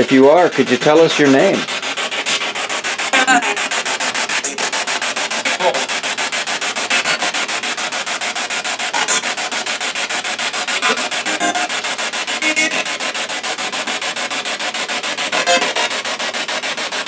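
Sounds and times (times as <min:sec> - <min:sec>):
chopped radio static hiss: 0:00.0 - 0:17.0.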